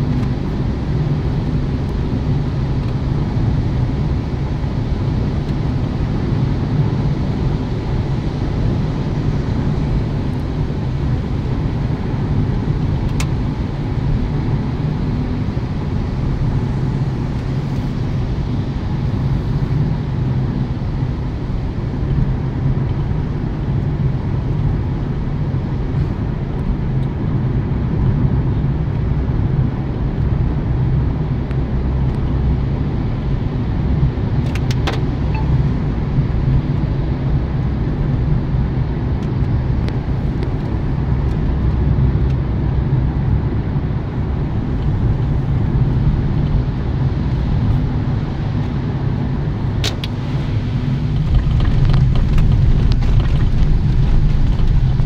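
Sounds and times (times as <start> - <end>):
in-cabin road and engine rumble: 0.0 - 55.0.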